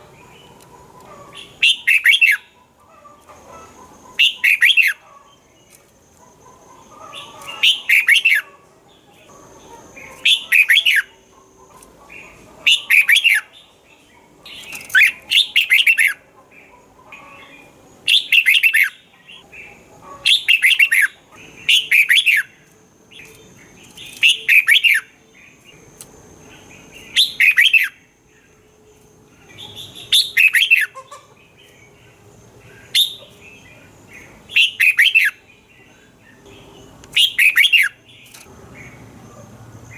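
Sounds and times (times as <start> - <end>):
bulbul singing: 0.0 - 2.8, 3.6 - 39.9.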